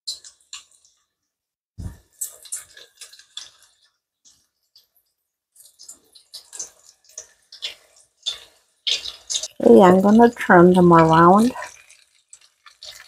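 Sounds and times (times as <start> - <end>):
oil crackling and popping: 0.1 - 13.0.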